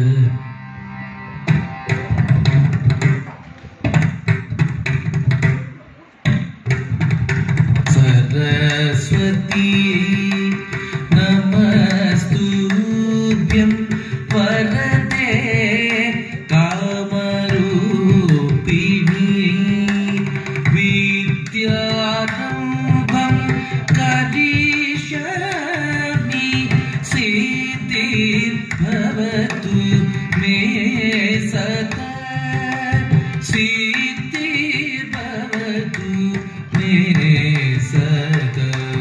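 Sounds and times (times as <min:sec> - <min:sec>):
hand drum rhythm: 0:01.5 - 0:39.0.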